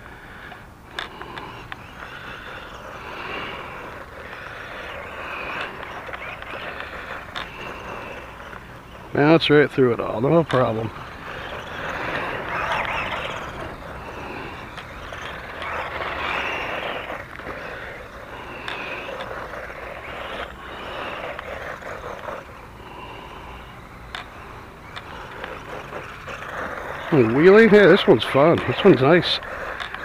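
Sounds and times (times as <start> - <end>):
small electric motor whining: 0.0 - 30.0
wheels churning wood chips: 0.0 - 30.0.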